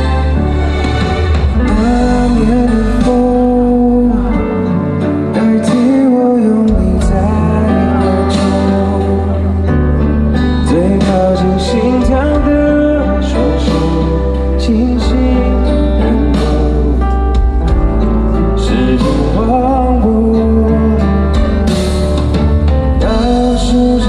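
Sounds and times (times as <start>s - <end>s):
guitar: 0.0s - 24.0s
heavy bass: 0.0s - 24.0s
man singing pop ballad: 1.5s - 24.0s.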